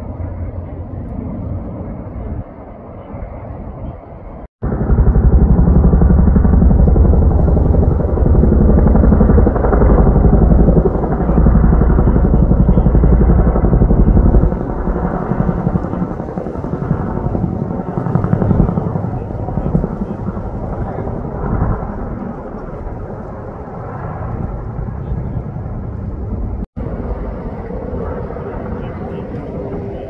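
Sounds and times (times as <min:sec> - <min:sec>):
helicopter rotor blades beating: 0:00.0 - 0:30.0.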